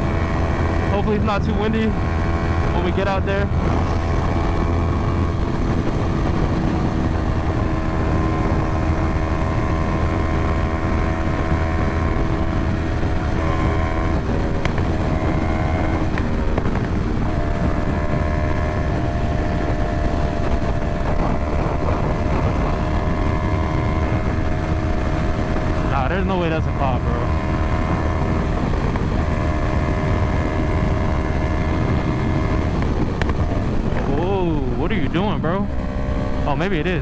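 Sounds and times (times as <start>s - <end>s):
motorcycle engine running: 0.0s - 37.0s
wind rumble on microphone: 0.0s - 37.0s.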